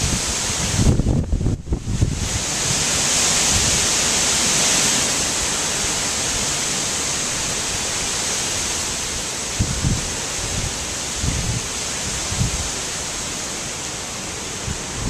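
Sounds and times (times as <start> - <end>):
strong wind rushing through trees: 0.0 - 15.0.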